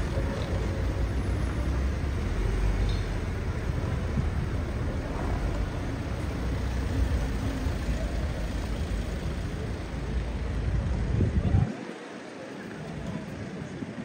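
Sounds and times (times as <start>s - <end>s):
city street traffic noise: 0.0s - 14.0s.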